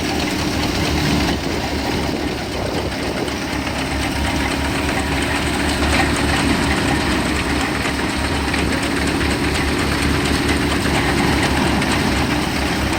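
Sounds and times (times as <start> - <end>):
thresher mechanical clatter: 0.0 - 12.9
tractor engine throb: 0.0 - 12.9.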